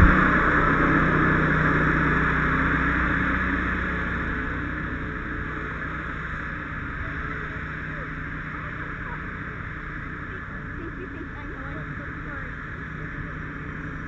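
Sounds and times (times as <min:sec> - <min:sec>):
fire engines droning: 0:00.0 - 0:14.0.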